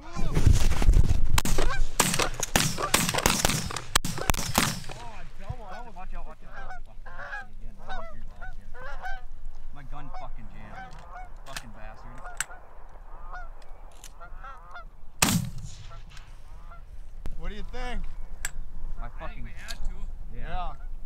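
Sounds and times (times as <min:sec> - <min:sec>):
geese honking and clucking: 0:01.4 - 0:15.1, 0:15.8 - 0:17.6, 0:18.3 - 0:19.7, 0:20.5 - 0:21.0.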